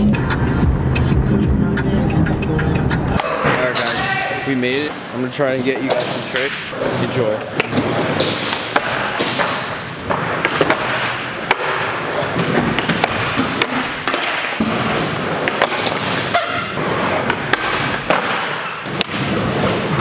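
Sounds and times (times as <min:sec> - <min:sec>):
skateboards rolling: 0:02.0 - 0:20.0
skateboards clacking and landing: 0:03.2 - 0:20.0.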